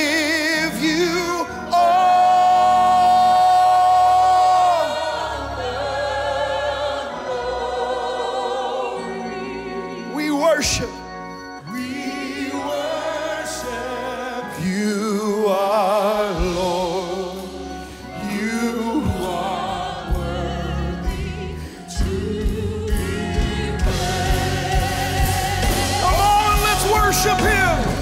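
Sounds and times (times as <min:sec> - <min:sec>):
instrumental backing with bass: 0:00.0 - 0:28.0.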